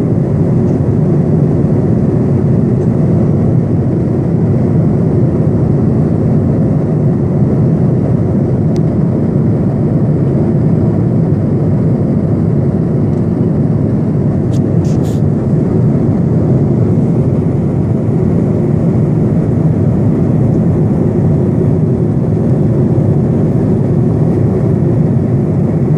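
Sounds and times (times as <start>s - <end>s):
airplane cabin engine rush: 0.0s - 25.9s.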